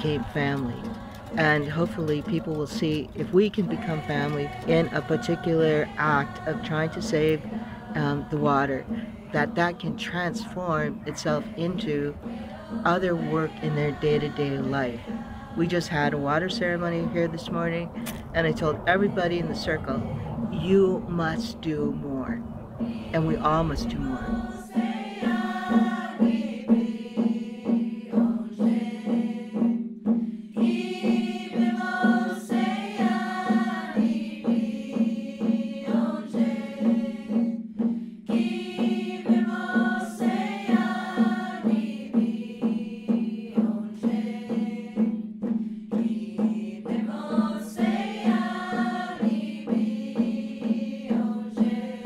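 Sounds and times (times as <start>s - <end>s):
group chanting in unison: 0.0s - 21.0s, 22.8s - 52.0s
steady drum beat: 0.0s - 52.0s.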